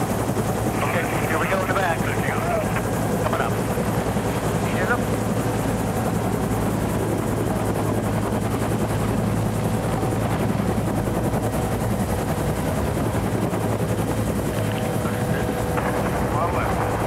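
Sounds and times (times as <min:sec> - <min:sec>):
helicopter rotor chopping: 0:00.0 - 0:17.0.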